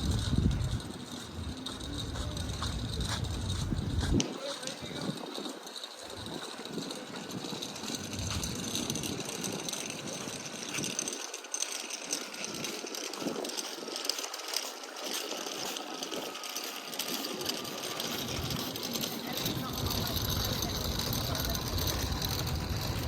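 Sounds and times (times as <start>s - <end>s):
busy walkway noise: 0.0s - 23.0s
whirring mechanical rattle: 0.0s - 23.0s.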